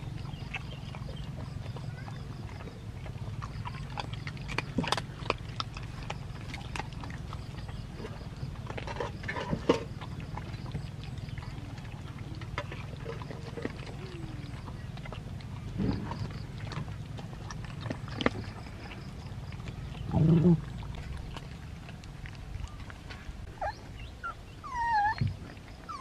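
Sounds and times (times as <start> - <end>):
puppies chewing and licking: 0.0 - 26.0.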